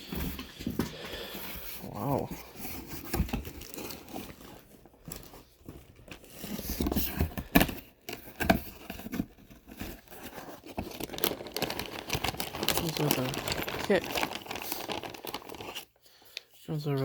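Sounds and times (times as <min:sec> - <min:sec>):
wrapping rustling and crinkling: 0:00.0 - 0:16.8.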